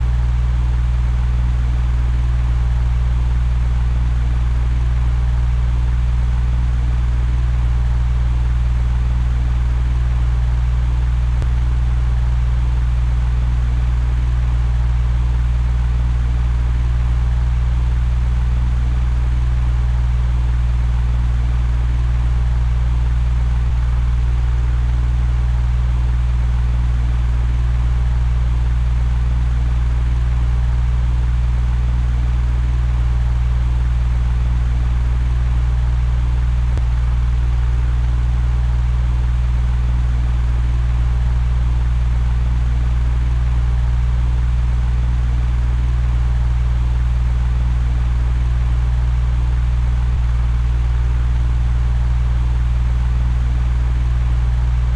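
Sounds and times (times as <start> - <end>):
electric fan running: 0.0 - 54.9.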